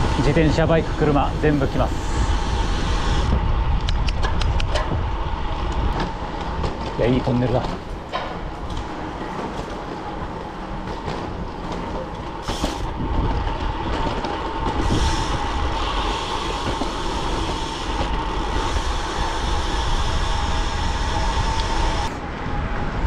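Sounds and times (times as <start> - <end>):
tyres rolling on asphalt: 0.0 - 23.0
wind rushing over microphone: 0.0 - 23.0.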